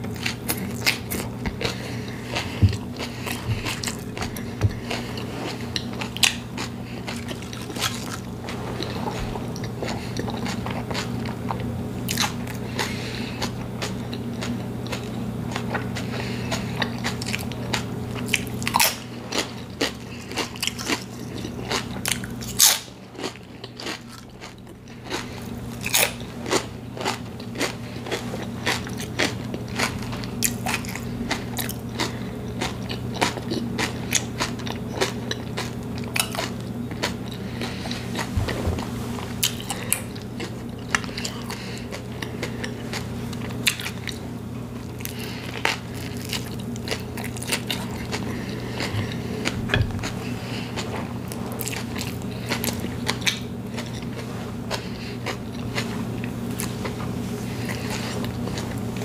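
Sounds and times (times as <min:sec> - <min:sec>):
crunching potato chips: 0:00.1 - 0:38.5, 0:39.4 - 0:59.0.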